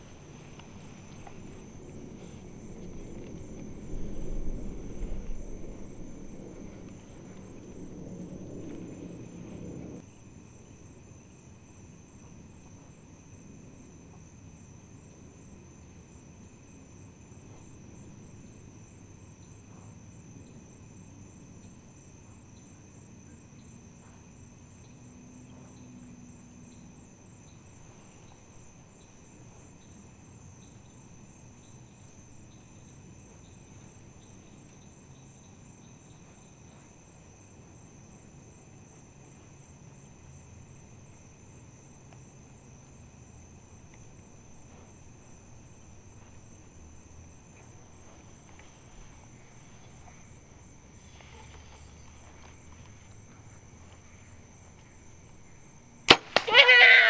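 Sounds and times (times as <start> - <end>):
crickets and insects trilling: 0.0 - 57.0.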